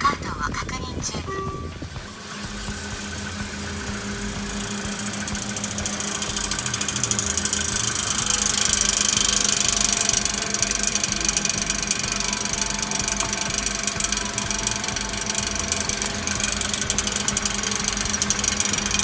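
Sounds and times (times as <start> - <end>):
low steady hum: 0.0 - 19.0
rapid mechanical clicking: 0.0 - 19.0.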